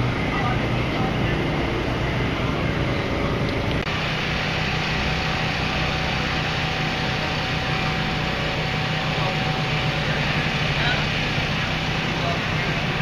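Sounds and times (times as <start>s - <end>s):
low hum: 0.0s - 13.0s
mechanical drone: 0.0s - 13.0s.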